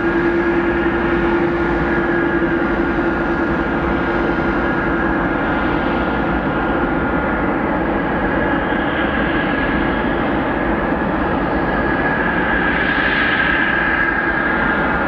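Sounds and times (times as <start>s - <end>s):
jet engines whining and rumbling: 0.0s - 15.0s.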